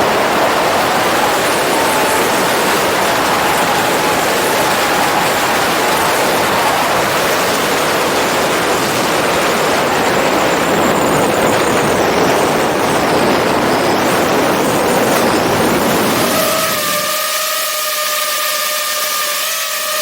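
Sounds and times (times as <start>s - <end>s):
drone propeller rushing noise: 0.0s - 17.2s
faint high whine: 0.0s - 18.4s.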